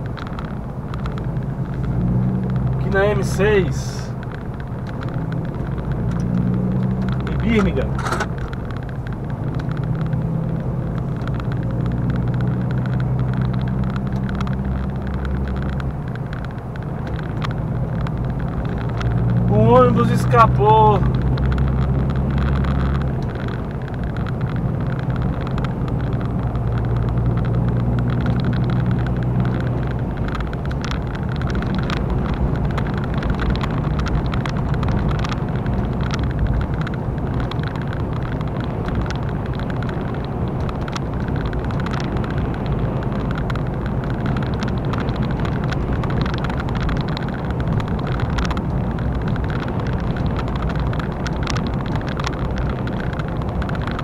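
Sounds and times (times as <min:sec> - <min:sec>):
tyre and road noise: 0:00.0 - 0:54.0.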